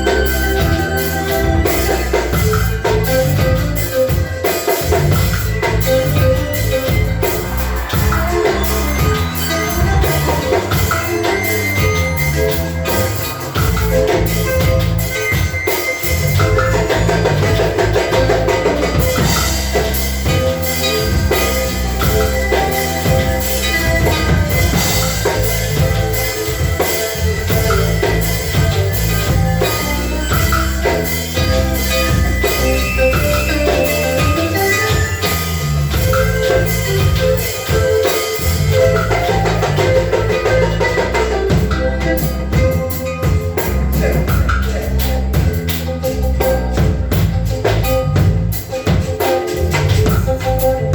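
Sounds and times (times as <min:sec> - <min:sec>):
music with drums and bass: 0:00.0 - 0:50.9.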